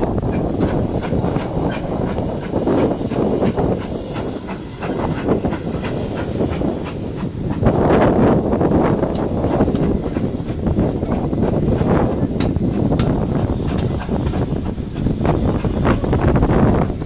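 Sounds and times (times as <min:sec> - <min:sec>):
steam hissing: 0:00.0 - 0:17.0
train clicks and clanks: 0:00.0 - 0:17.0.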